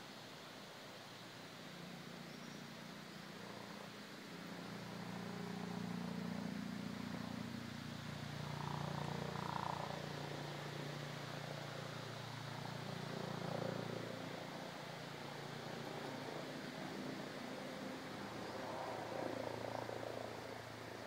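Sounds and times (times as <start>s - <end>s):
distant engine drone: 1.8s - 21.0s.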